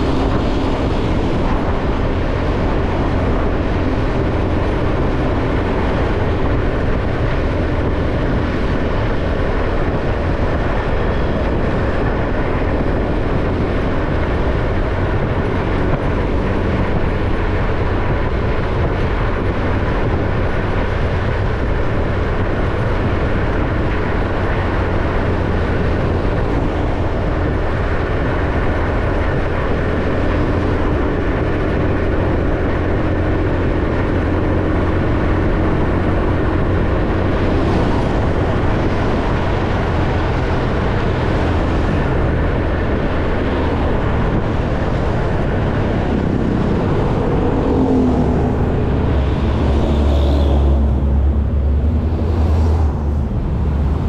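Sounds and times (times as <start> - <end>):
motorcycle engine running: 0.0 - 52.3
road noise: 0.0 - 54.0
wind noise: 0.0 - 54.0.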